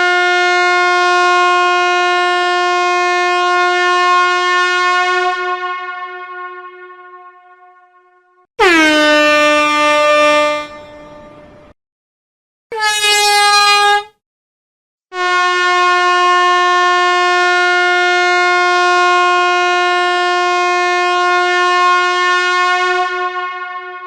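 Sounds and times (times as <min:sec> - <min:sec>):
air horn blasts: 0:00.0 - 0:11.7, 0:12.7 - 0:14.2, 0:15.1 - 0:24.0.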